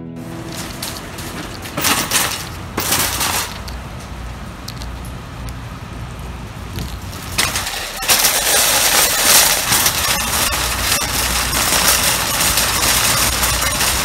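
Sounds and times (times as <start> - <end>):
low hum: 0.0 - 14.0
rain and cart wheel noise: 0.2 - 14.0.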